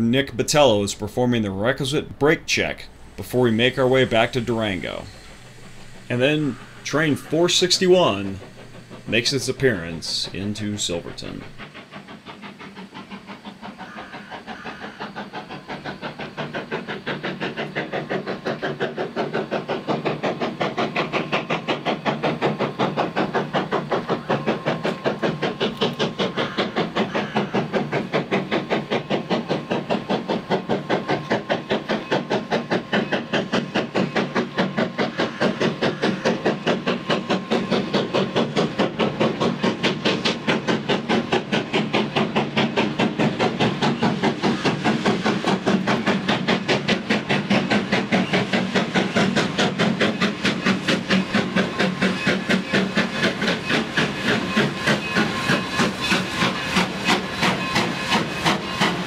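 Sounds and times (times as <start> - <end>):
steam hiss: 0.0 - 59.0
steam locomotive exhaust beating: 0.0 - 59.0.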